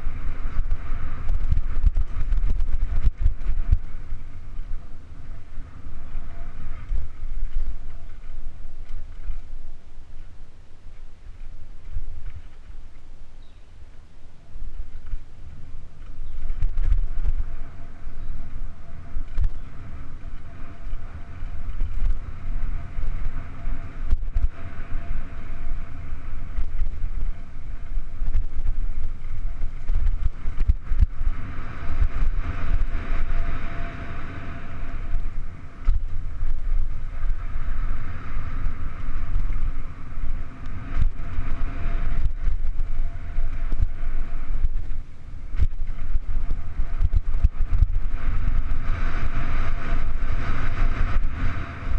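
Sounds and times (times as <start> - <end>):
wind buffeting on microphone: 0.0 - 51.9.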